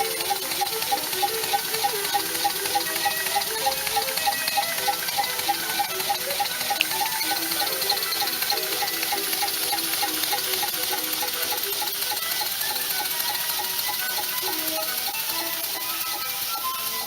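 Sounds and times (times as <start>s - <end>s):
steam engine ticking beat: 0.0s - 17.0s
steam hiss: 0.0s - 17.0s.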